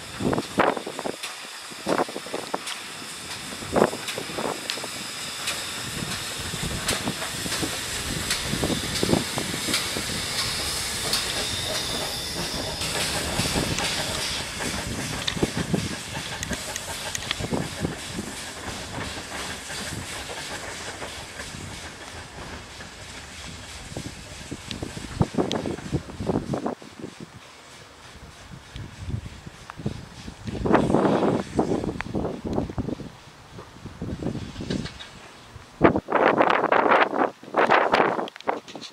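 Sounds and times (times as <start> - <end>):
steam hissing: 0.0 - 38.9
steam locomotive running past: 0.0 - 38.9.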